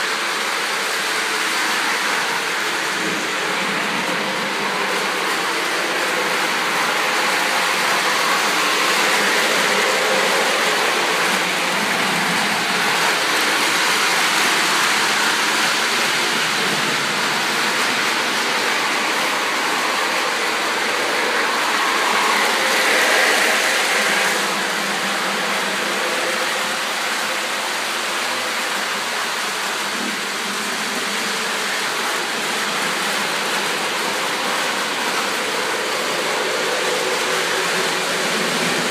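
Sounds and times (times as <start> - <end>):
model train whirring: 0.0 - 38.9.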